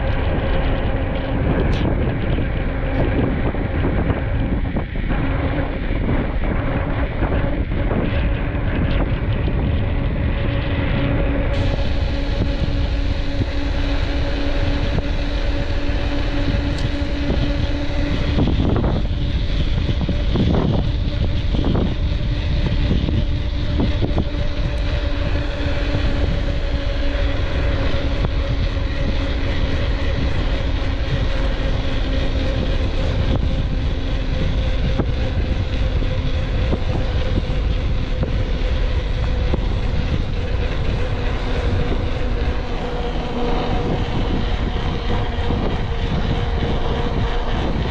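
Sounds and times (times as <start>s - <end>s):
engine hum: 0.0s - 47.9s
heavy low rumble: 0.0s - 47.9s.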